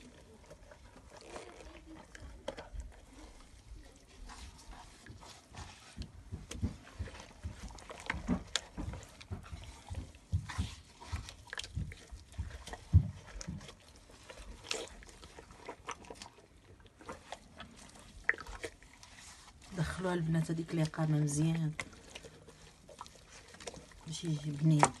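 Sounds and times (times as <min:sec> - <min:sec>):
plastic glove rubbing: 0:00.0 - 0:25.0
wet squelches and smacks: 0:00.0 - 0:25.0.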